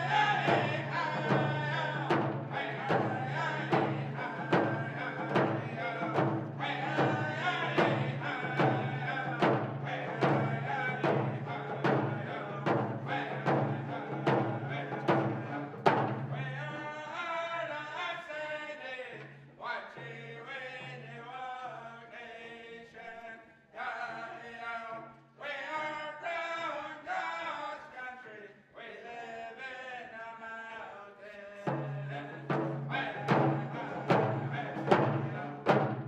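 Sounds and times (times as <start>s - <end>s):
men chanting: 0.0s - 36.0s.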